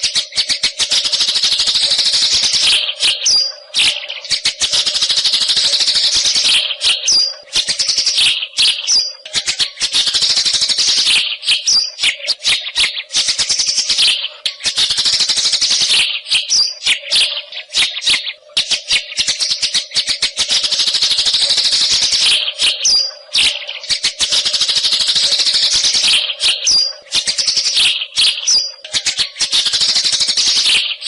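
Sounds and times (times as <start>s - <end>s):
high whistled bird notes: 0.0s - 31.0s
songbird chattering song: 0.0s - 31.0s.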